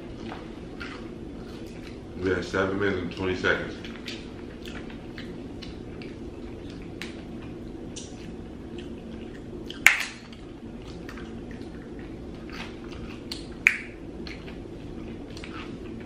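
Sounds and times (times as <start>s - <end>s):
steady low hum: 0.0s - 16.0s
people eating wet smacks: 0.2s - 2.1s, 3.1s - 16.0s.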